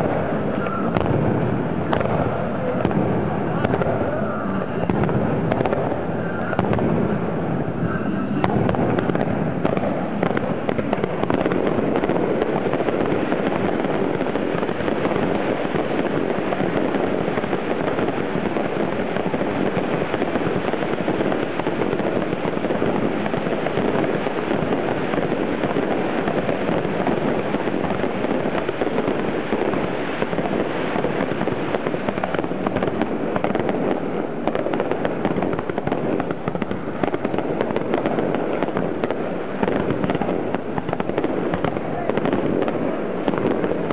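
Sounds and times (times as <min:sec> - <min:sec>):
fireworks launching and bursting: 0:00.0 - 0:43.9.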